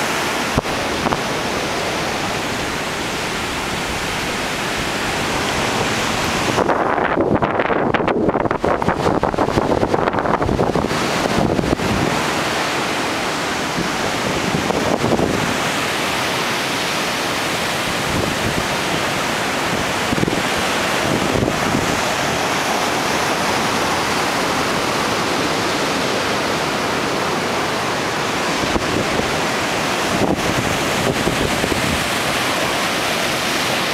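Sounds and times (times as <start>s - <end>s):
wind buffeting microphone: 0.0s - 15.9s, 17.4s - 33.9s
heavy ocean surf: 0.0s - 33.9s.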